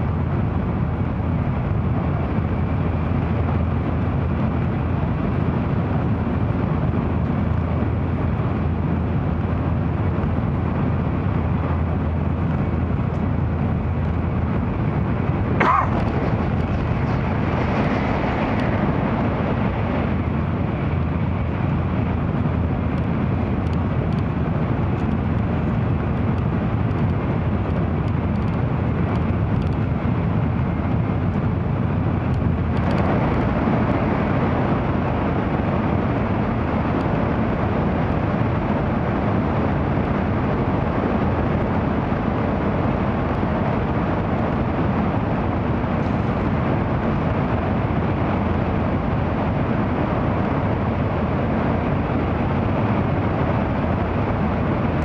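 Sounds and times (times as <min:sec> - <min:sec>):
train running noise inside cabin: 0:00.0 - 0:55.0.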